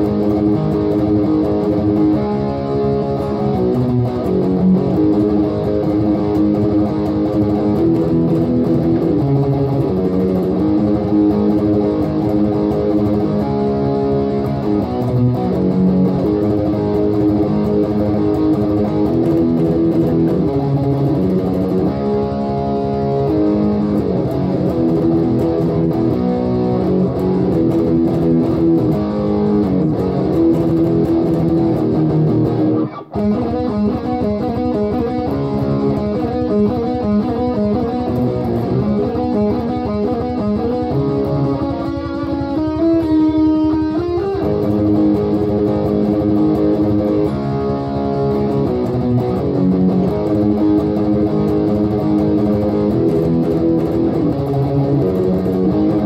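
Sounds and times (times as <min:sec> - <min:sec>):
electric guitar picked notes: 0:00.0 - 0:56.0.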